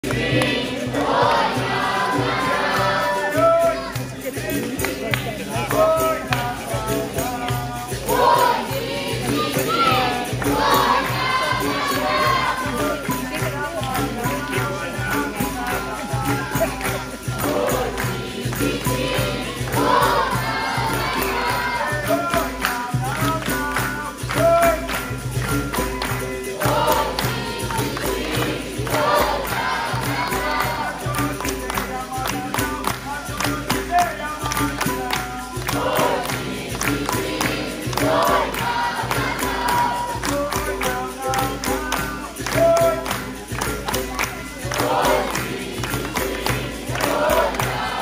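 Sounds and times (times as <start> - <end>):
berimbaus and drums playing: 0.0 - 48.0
group singing in chorus: 0.0 - 48.0
pandeiros: 0.0 - 48.0
person leading song: 0.0 - 48.0.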